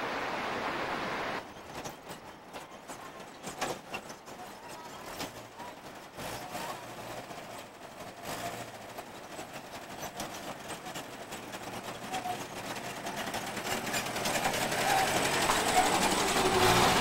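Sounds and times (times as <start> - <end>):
vehicle engine driving slowly: 1.4 - 17.0.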